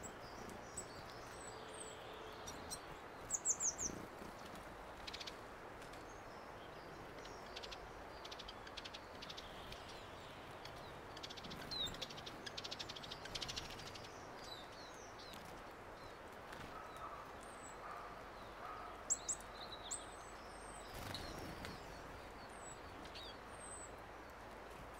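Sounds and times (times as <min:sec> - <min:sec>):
songbirds chirping: 0:00.0 - 0:24.9
steady outdoor hiss: 0:00.0 - 0:24.9.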